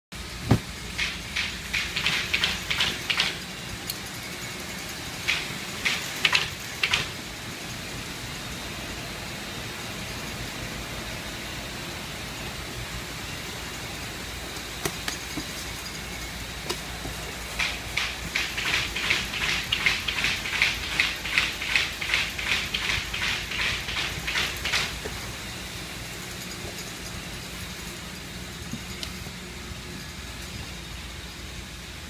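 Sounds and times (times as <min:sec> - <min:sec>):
background hum and hiss: 0:00.2 - 0:32.0.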